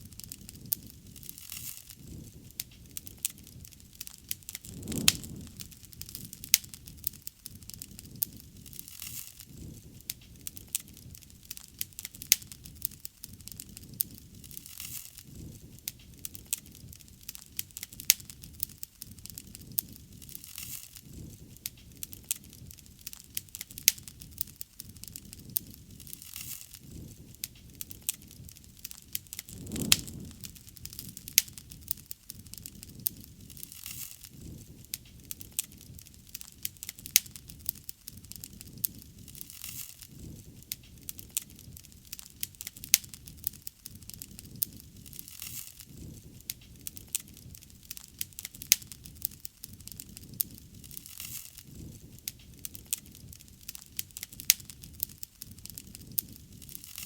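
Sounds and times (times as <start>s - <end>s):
low rushing of flames: 0.0s - 57.0s
wood fire popping and snapping: 0.0s - 57.0s.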